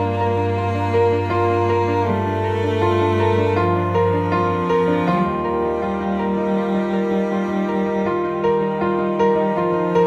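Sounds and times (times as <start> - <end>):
slow sad instrumental music: 0.0 - 10.0.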